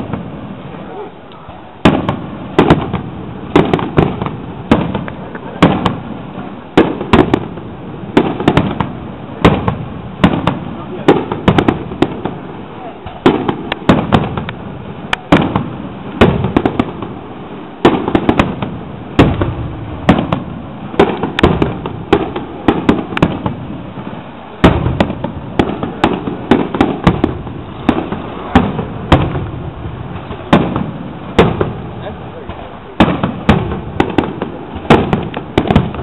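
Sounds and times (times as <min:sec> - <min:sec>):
fireworks bursting with loud bangs: 0:00.0 - 0:36.0.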